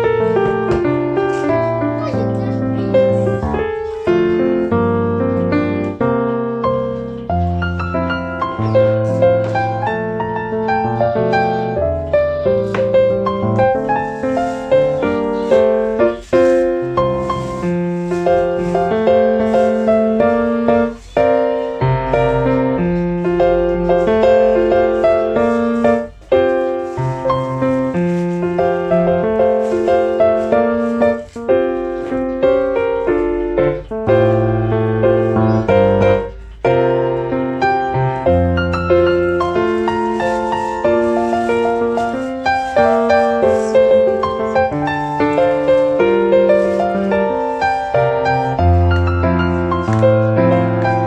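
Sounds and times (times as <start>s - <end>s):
piano music: 0.0s - 51.0s.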